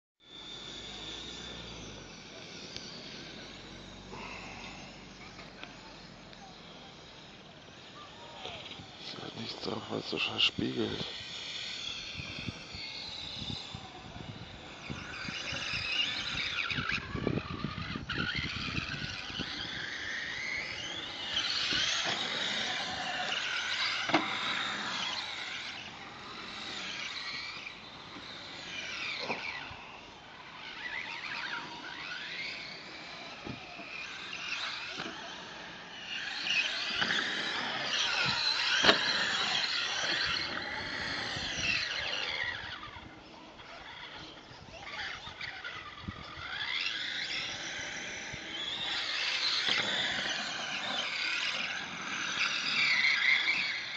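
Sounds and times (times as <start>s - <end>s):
rc truck motor whining: 0.2s - 53.9s.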